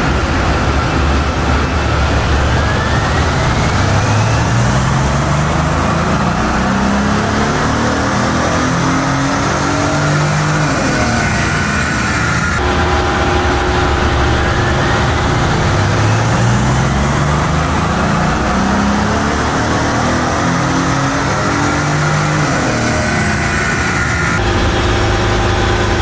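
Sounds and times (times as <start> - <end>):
car engine at full throttle: 0.0 - 26.0.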